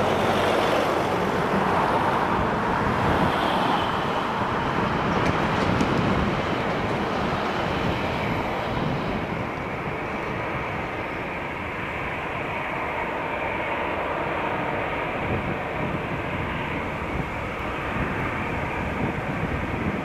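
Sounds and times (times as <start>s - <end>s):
engine roaring: 0.0s - 20.0s.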